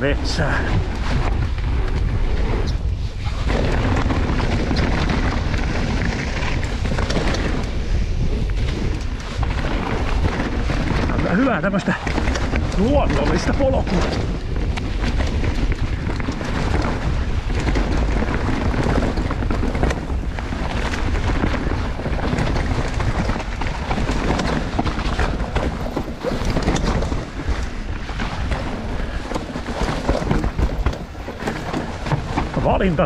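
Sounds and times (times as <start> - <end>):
bike clattering over bumps: 0.0 - 33.0
bike tyres rumbling over dirt: 0.0 - 33.0
wind buffeting microphone: 0.0 - 33.0.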